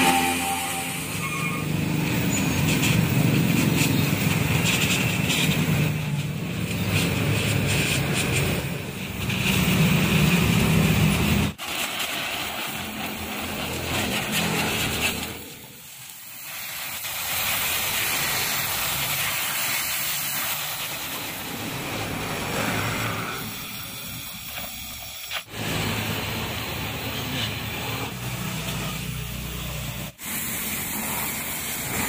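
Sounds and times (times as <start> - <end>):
welding torch flame hissing: 0.0 - 32.0.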